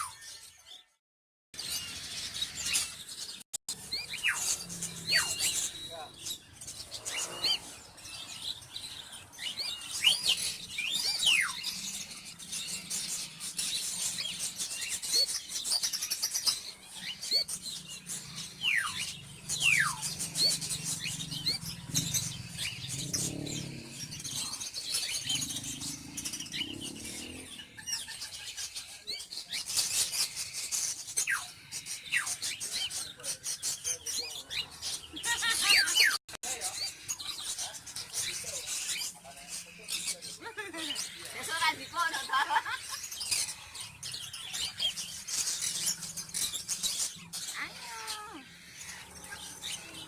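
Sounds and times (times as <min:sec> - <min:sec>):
cockatiel chicks begging calls: 0:01.6 - 0:50.0.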